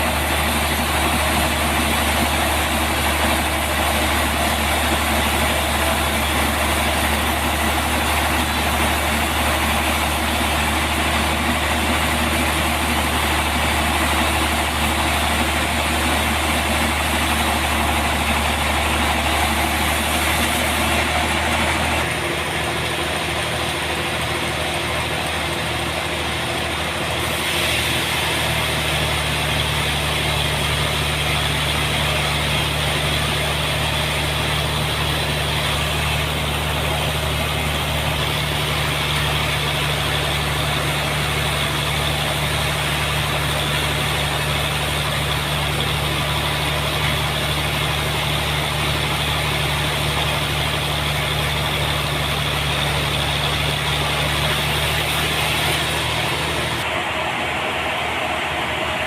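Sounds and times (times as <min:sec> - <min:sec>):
sawmill engine and saw running: 0:00.0 - 0:59.0.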